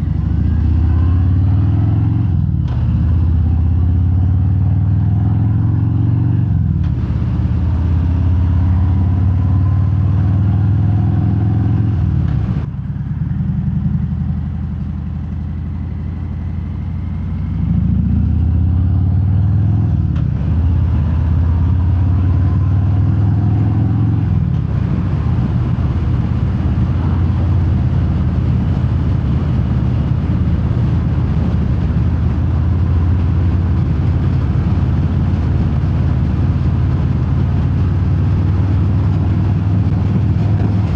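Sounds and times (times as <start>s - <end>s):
motorcycle engine riding: 0.0s - 40.9s.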